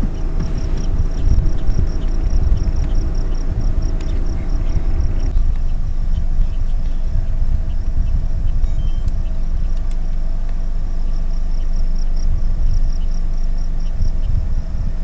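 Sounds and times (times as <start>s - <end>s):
faint high chirping: 0.0s - 14.5s
car engine idling: 0.0s - 15.0s.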